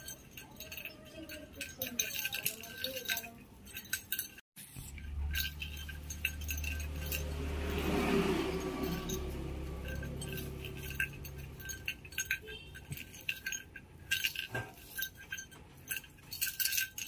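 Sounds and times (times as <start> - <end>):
cat toy clinking and jingling: 0.0 - 17.0.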